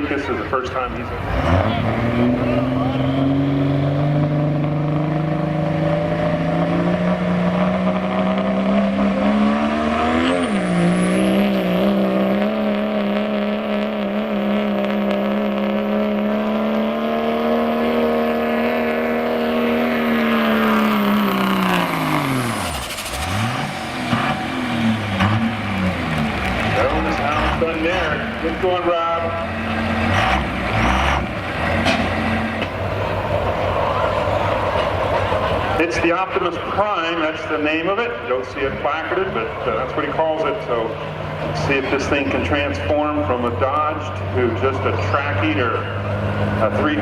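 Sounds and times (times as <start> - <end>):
truck engine at full throttle: 0.0 - 47.0.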